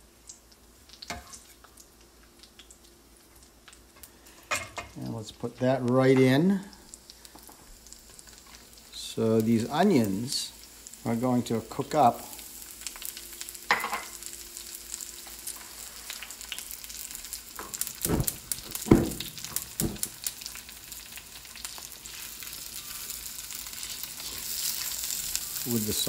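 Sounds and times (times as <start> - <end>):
sausage and onion sizzling in oil: 0.0 - 26.0.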